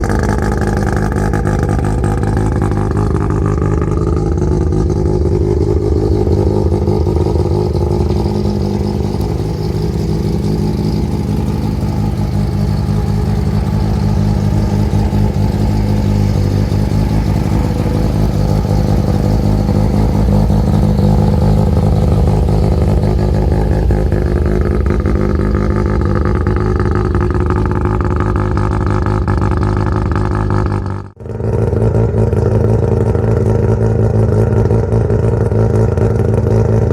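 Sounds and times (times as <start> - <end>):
rotary engine idling: 0.0 - 36.9.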